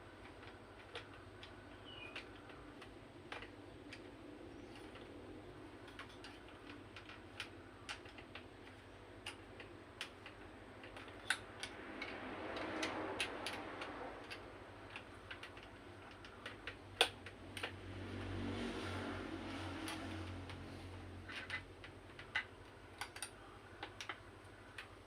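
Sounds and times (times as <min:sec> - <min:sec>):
small hard parts clicking: 0:00.0 - 0:25.0.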